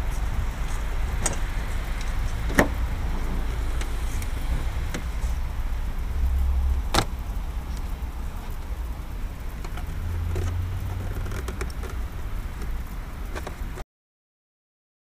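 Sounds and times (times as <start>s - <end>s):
low steady rumble: 0.0s - 13.8s.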